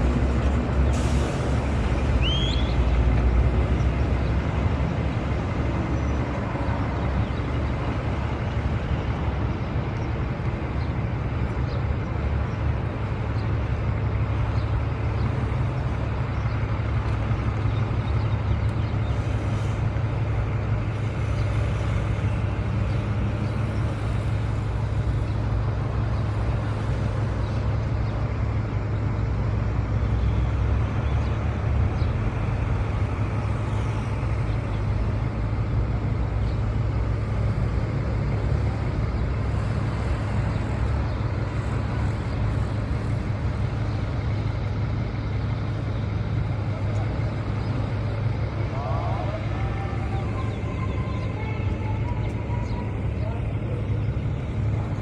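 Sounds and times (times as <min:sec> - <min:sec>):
vehicle road noise rumble: 0:00.0 - 0:55.0.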